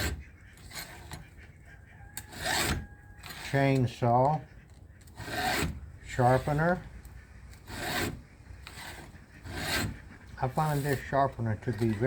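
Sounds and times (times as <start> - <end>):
file rasping on saw chain: 0.0 - 1.4, 2.2 - 3.8, 4.7 - 12.0.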